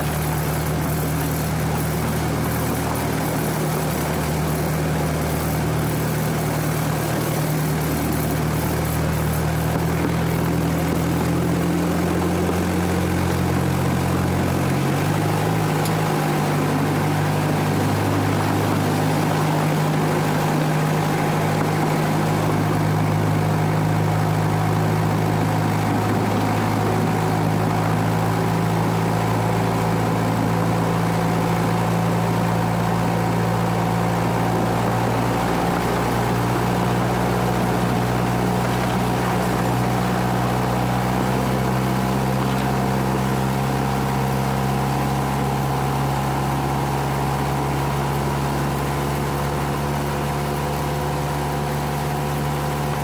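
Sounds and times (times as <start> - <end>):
small locomotive engine running: 0.0 - 53.0.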